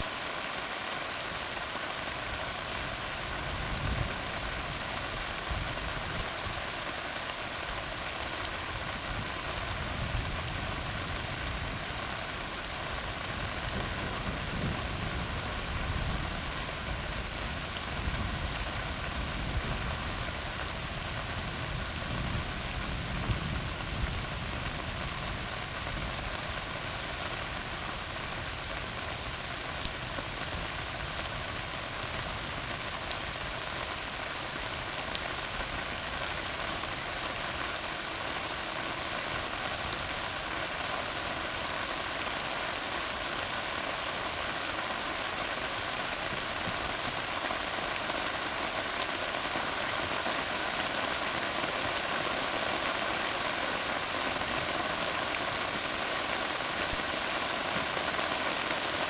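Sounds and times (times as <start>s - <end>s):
rain falling on a road: 0.0s - 59.0s.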